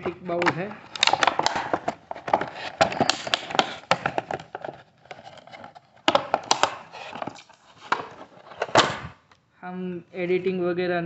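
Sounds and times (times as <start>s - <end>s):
plastic packaging crackling: 0.0s - 9.2s.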